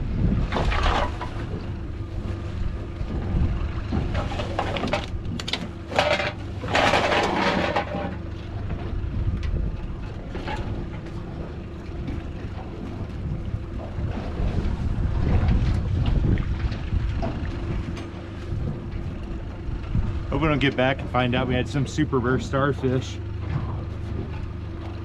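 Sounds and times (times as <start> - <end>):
wind buffeting microphone: 0.0 - 6.6, 8.2 - 25.0
boat low rumble: 0.0 - 25.0.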